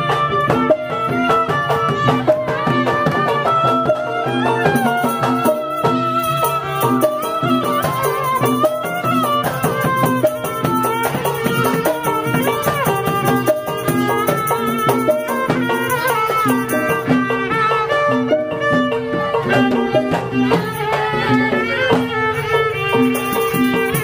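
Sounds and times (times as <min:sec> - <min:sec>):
spike fiddle melody: 0:00.0 - 0:24.0.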